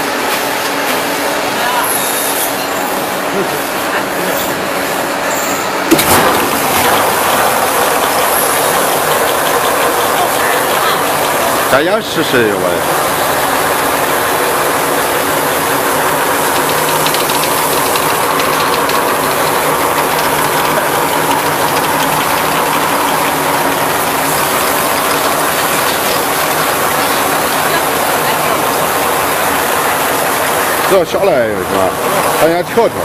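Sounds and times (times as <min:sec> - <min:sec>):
bottle washing machine running: 0:00.0 - 0:33.0.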